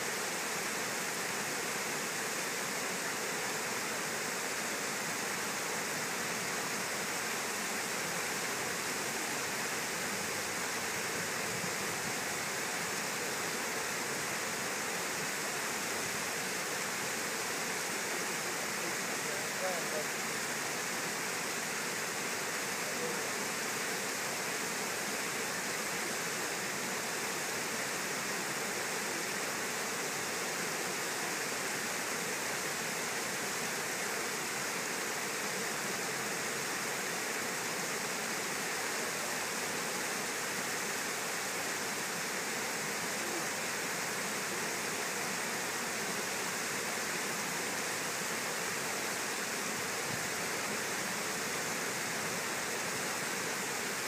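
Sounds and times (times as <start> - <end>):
water rushing over dam spillway: 0.0 - 54.0.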